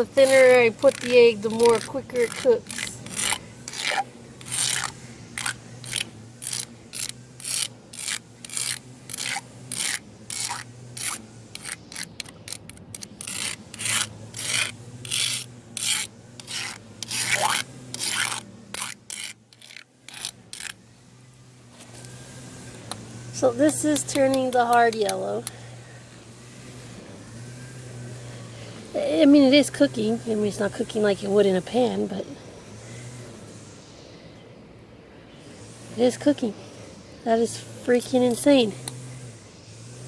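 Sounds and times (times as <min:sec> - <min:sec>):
rasping strokes on concrete: 0:00.0 - 0:32.2.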